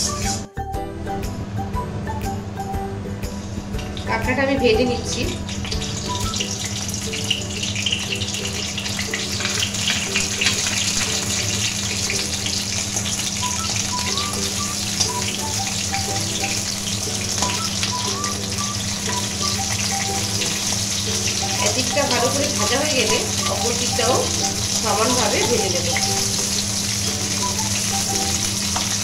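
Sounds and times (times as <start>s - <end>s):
soft melody: 0.0s - 29.0s
crab sizzling in hot oil: 5.1s - 29.0s.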